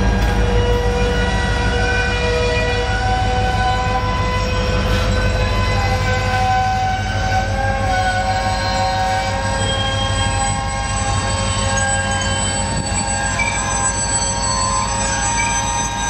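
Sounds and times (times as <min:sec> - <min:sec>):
freight train rumbling past: 0:00.0 - 0:16.0
steel wheels squealing: 0:00.0 - 0:16.0.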